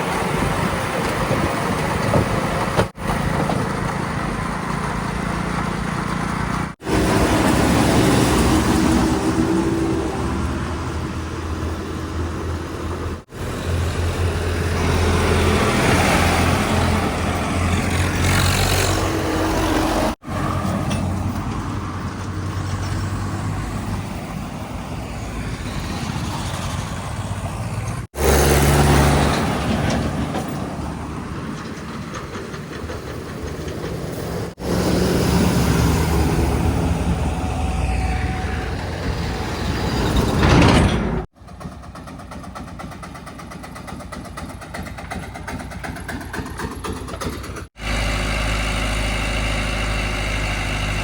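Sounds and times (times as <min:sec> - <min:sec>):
heavy diesel machinery working: 0:00.0 - 0:51.0.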